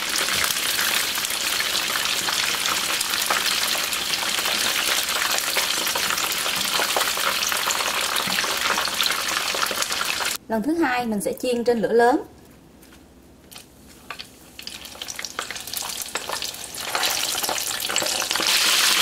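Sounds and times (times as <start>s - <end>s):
fish deep-frying in oil: 0.0s - 10.4s, 14.1s - 19.0s.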